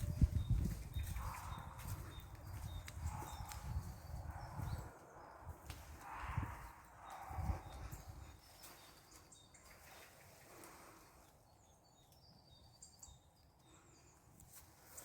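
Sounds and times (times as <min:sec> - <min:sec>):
birds chirping in trills: 0:00.0 - 0:15.0.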